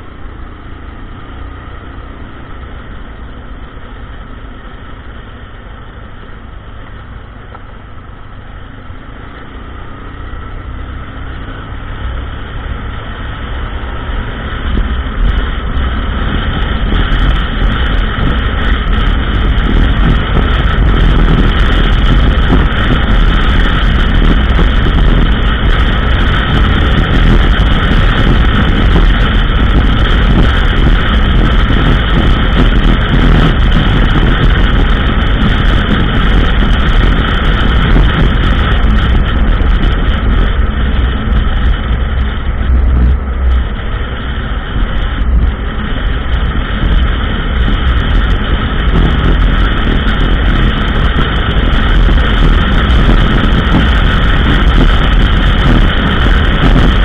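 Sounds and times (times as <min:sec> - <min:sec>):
atv engine running: 0:00.0 - 0:57.0
wind noise on microphone: 0:00.0 - 0:57.0.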